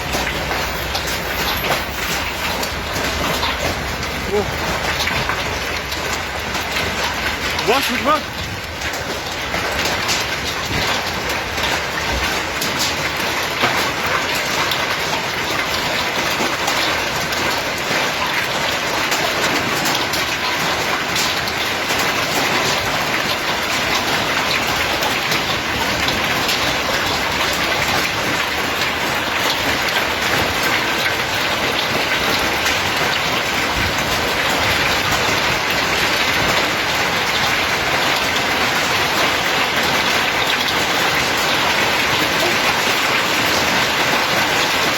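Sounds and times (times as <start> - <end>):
hail and rain striking surfaces: 0.0 - 44.9
hailstones ticking: 0.0 - 44.9.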